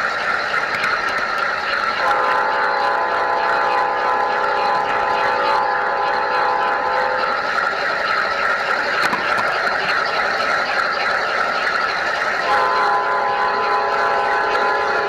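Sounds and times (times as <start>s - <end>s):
model train wheels on rail: 0.0s - 15.0s
whine: 0.0s - 15.0s.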